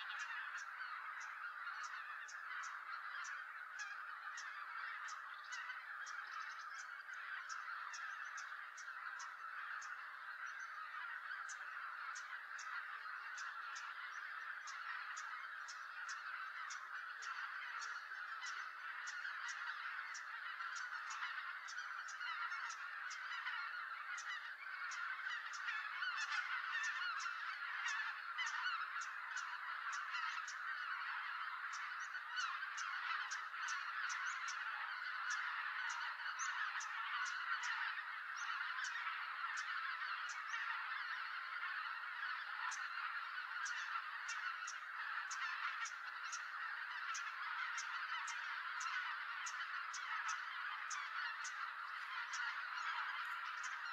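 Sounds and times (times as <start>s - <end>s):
geese honking chorus: 0.0s - 53.9s.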